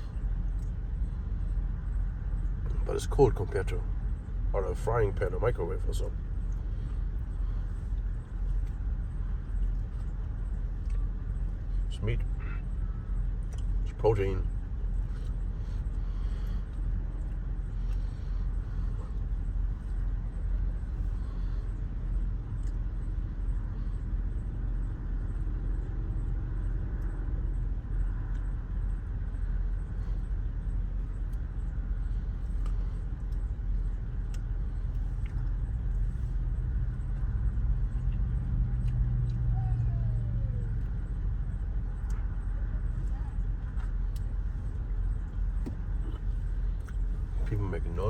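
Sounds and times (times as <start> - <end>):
van engine idling: 0.0 - 48.0.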